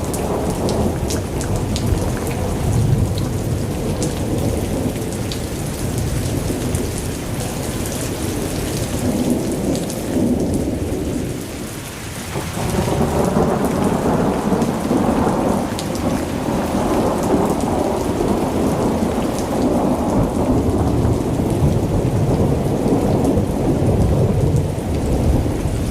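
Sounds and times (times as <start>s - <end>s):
rolling thunder: 0.0s - 11.7s, 12.3s - 25.9s
steady rain: 0.0s - 25.9s.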